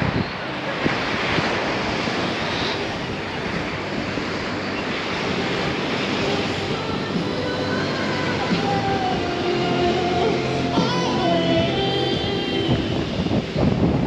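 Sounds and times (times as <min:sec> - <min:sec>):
waves rushing: 0:00.0 - 0:14.0
wind buffeting microphone: 0:00.0 - 0:14.0.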